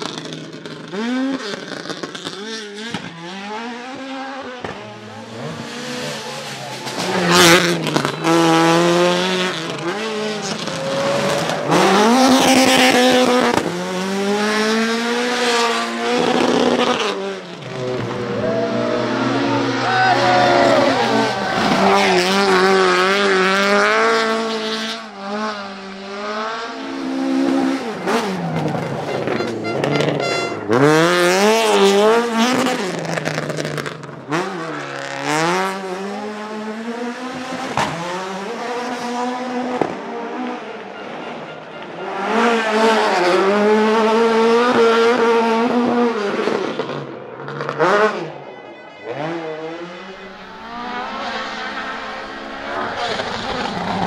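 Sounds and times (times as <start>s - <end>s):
rally car engine revving hard: 0.0s - 48.4s, 49.1s - 54.0s.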